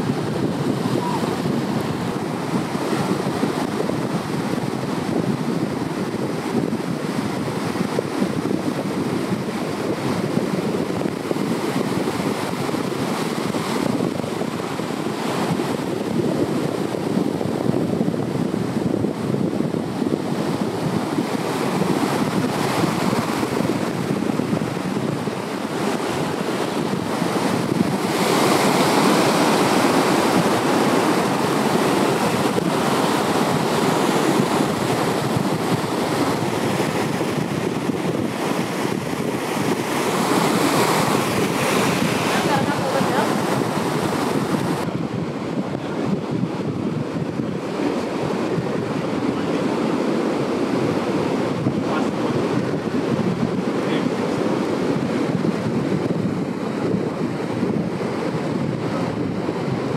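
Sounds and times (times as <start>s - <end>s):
surf washing onto beach: 0.0s - 59.9s
wind on microphone: 0.0s - 59.9s.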